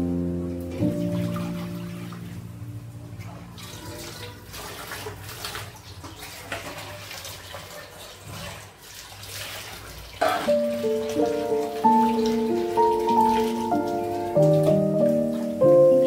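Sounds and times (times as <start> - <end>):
tap water splashing in sink: 3.1 - 16.0.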